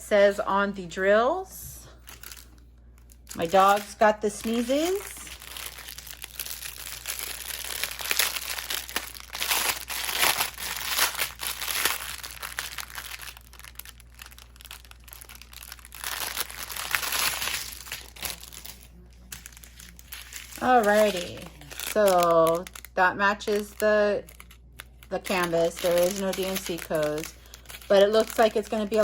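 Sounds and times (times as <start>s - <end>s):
plastic packaging crinkling: 2.0s - 29.0s.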